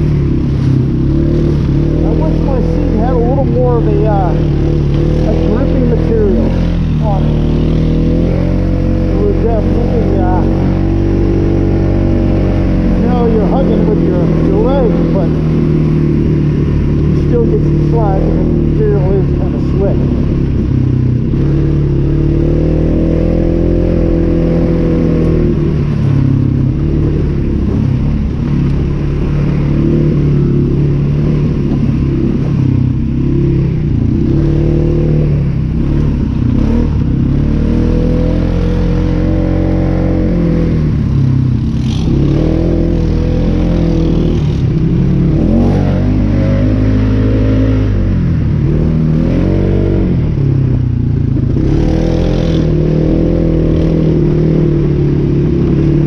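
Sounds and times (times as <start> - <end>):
single-cylinder engine revving: 0.0 - 56.0.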